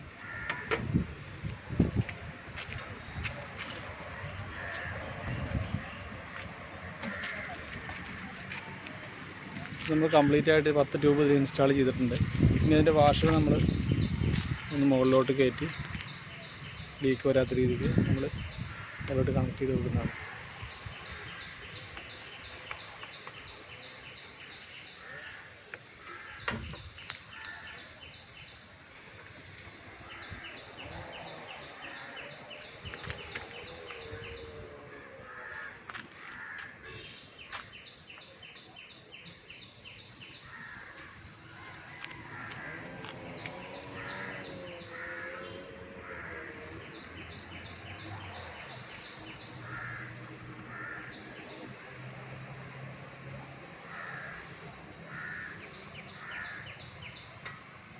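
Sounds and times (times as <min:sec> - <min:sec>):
birds chirping: 0:00.0 - 0:57.9.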